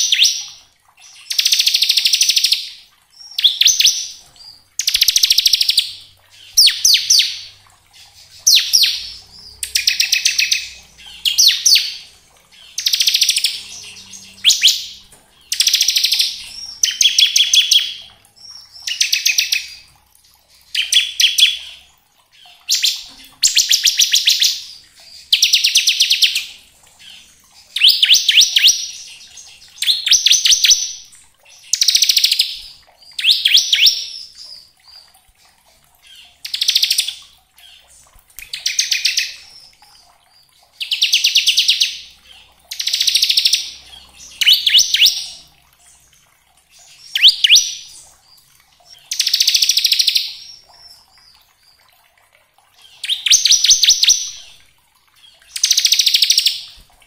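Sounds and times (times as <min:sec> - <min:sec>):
bird singing fast repeated notes: 0:00.0 - 0:35.1, 0:36.0 - 0:51.8, 0:52.8 - 0:56.9.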